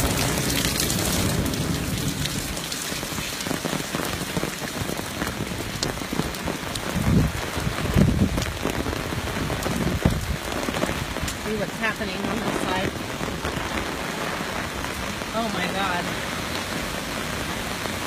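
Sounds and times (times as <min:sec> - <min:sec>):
rain on wet paving: 0:00.0 - 0:18.0.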